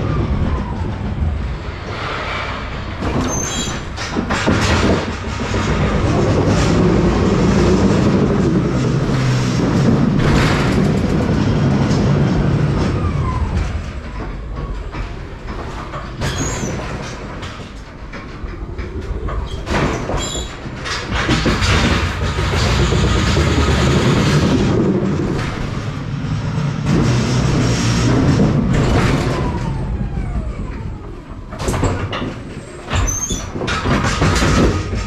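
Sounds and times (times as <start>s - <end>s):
pallet truck rolling rumble: 0.0s - 35.0s.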